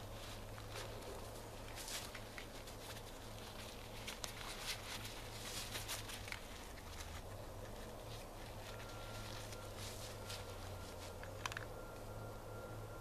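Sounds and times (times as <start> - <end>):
shuffling in dry leaves: 0.0 - 11.3
tarp rustling and crinkling: 0.0 - 11.6.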